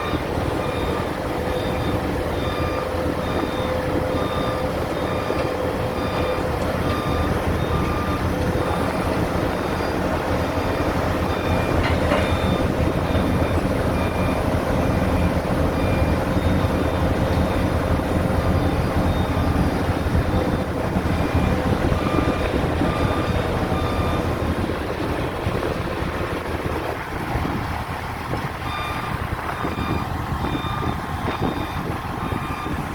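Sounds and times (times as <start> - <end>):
crane engine running: 0.0 - 32.9.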